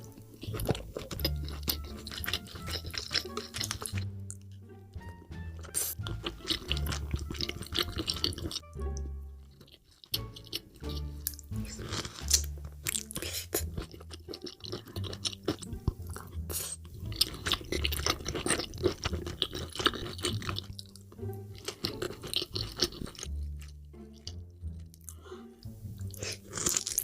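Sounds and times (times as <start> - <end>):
wet chewing and crunching: 0.0 - 25.2, 26.0 - 27.0
background music with bass: 0.0 - 27.0.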